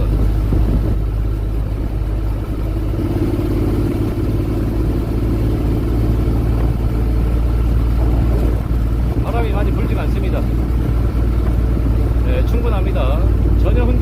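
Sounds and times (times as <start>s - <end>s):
motorcycle engine rumble: 0.0s - 14.0s
riding noise: 0.0s - 14.0s.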